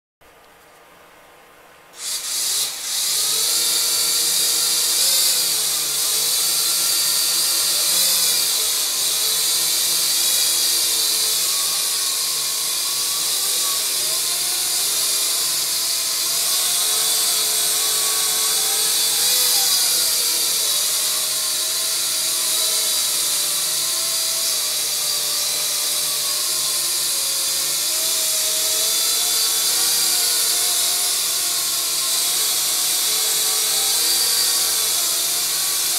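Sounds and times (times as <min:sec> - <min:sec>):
toy quadcopter motors whining: 0:02.0 - 0:35.9.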